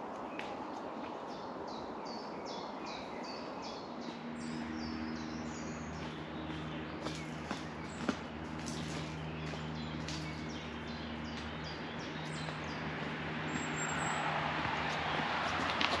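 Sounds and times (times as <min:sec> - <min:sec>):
songbird chirping: 0:00.1 - 0:14.2.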